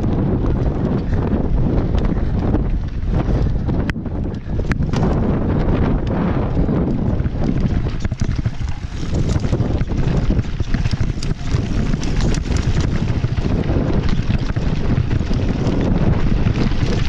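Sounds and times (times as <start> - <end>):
bike rattling over stones: 0.0 - 17.0
wind buffeting microphone: 0.0 - 17.0.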